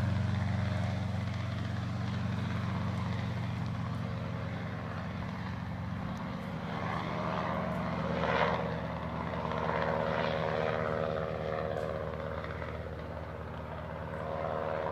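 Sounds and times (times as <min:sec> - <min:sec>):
helicopter engine and rotor drone: 0:00.0 - 0:14.9.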